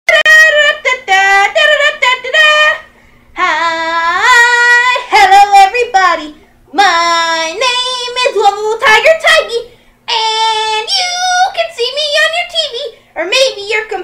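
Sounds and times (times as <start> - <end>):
child-like voice singing: 0.1 - 14.0.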